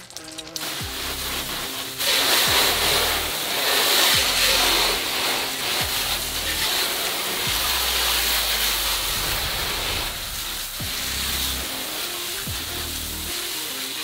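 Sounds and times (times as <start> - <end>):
hose water spraying on metal: 0.0 - 14.0.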